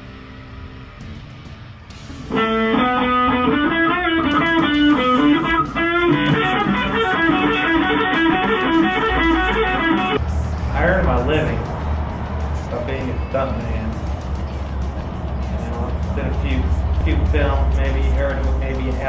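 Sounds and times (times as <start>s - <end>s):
electric guitar music: 0.0s - 19.0s.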